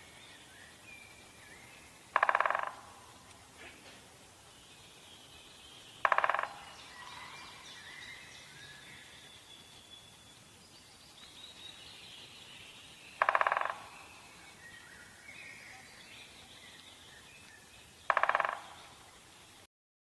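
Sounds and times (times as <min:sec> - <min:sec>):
faint birdsong: 0:00.0 - 0:19.7.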